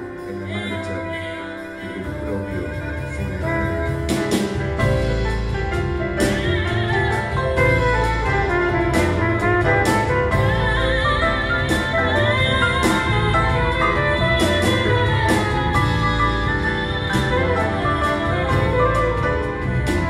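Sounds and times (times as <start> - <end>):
woman singing: 0.0 - 2.2, 5.5 - 20.0
live acoustic band: 0.0 - 20.0.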